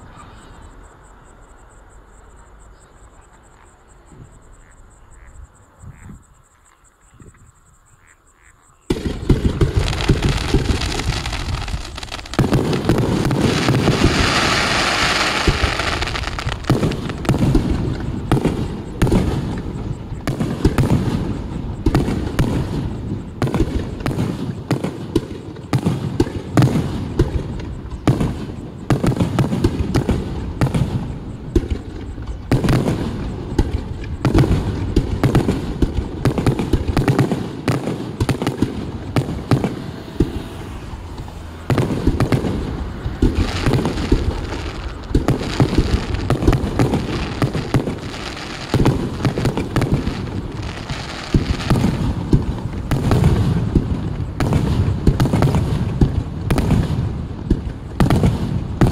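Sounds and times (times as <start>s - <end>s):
fireworks hissing crackle: 8.9s - 58.9s
fireworks launch thumps and bursts: 8.9s - 58.9s.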